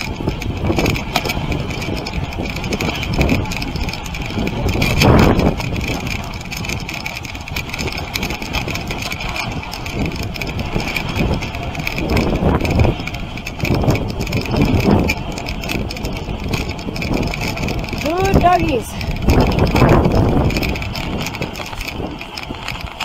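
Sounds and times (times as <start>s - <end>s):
sled knocking and rattling: 0.0s - 23.0s.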